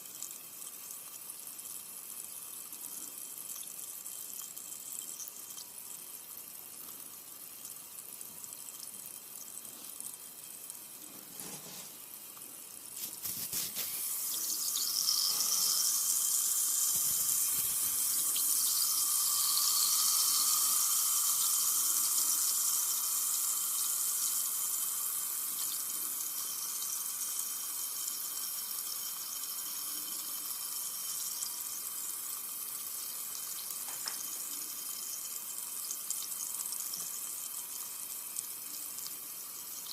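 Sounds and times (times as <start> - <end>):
soda fizzing: 0.0 - 39.9.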